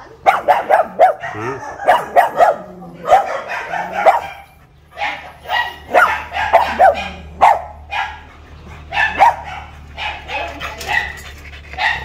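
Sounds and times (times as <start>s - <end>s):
dog barking: 0.2s - 11.2s, 11.8s - 12.0s.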